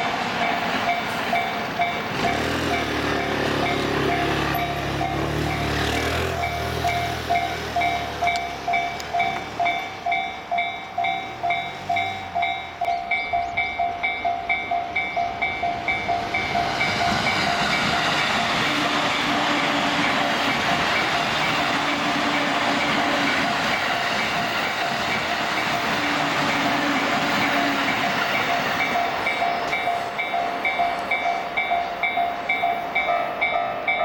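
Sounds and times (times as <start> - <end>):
electric train passing: 0.0 - 34.0
level crossing bells ringing: 0.0 - 34.0.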